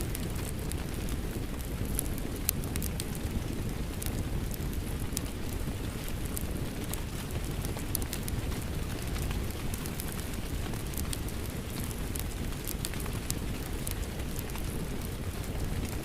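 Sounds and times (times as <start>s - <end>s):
crackling wood fire: 0.0s - 16.0s
steady rain: 0.0s - 16.0s.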